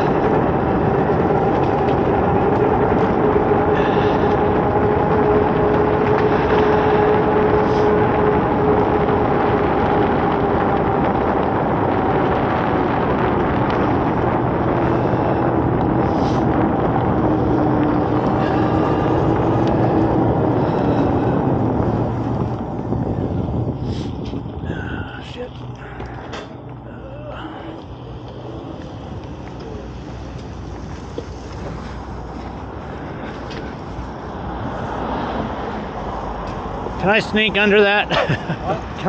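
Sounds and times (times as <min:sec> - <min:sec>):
tyre noise: 0:00.0 - 0:37.4
e-bike motor whining: 0:00.0 - 0:37.8
wind rush: 0:00.0 - 0:39.0.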